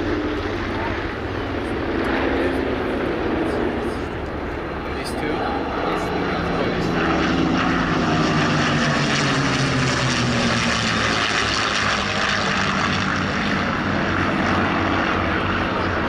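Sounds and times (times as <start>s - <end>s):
propeller plane passing low: 0.0s - 16.0s.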